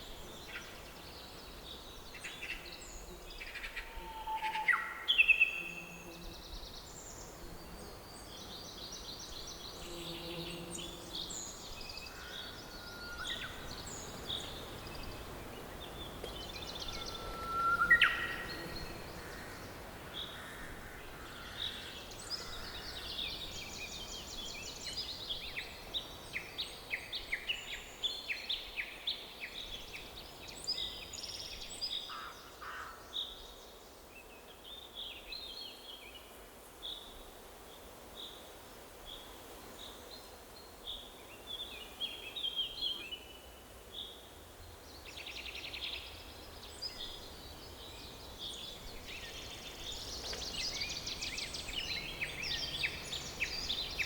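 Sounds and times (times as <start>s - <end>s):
songbirds chirping and trilling: 0.0s - 36.3s, 39.9s - 54.0s
faint low background noise: 0.0s - 54.0s.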